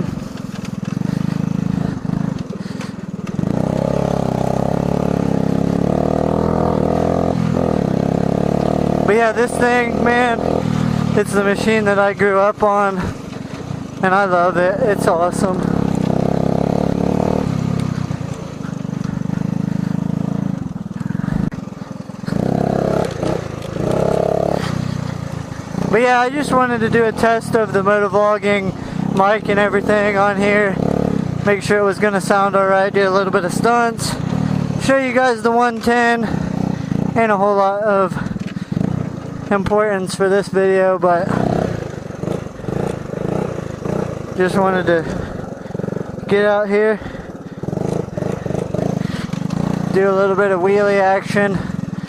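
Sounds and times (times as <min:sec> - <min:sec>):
single-cylinder engine revving: 0:00.0 - 0:52.0.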